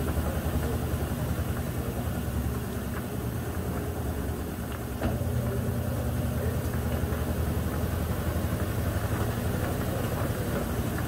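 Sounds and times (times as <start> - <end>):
washing machine spinning hum: 0.0 - 11.0.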